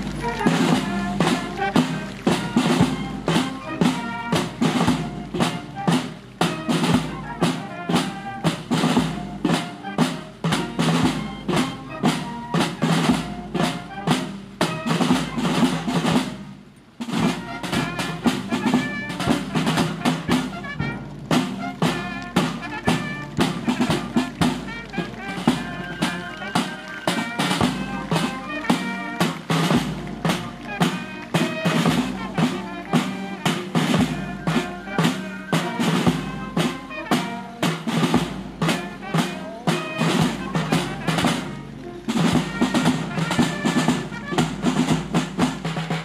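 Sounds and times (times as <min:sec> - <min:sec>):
marching band playing: 0:00.0 - 0:46.0
snare and bass drum beats: 0:00.0 - 0:46.0.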